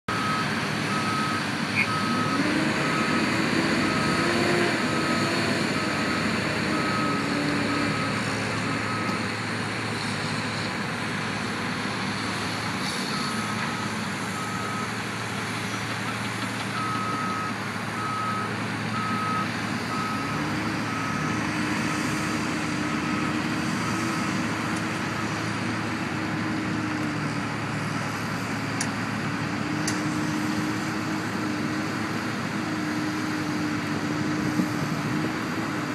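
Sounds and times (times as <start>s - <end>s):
heavy vehicle engine running: 0.1s - 35.9s.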